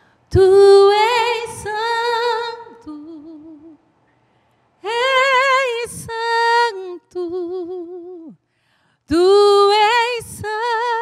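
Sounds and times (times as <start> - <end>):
woman singing a cappella: 0.3 - 3.9, 4.8 - 11.0.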